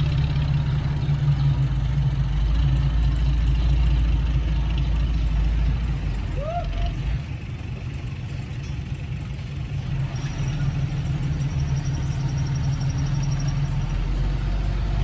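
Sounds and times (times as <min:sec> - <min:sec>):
heavy diesel engine rumbling: 0:00.0 - 0:15.0.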